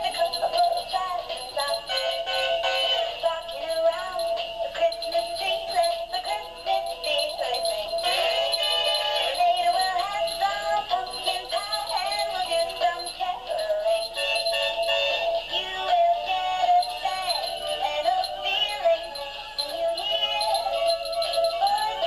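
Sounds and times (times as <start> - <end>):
toy playing synthesized song: 0.0 - 22.0.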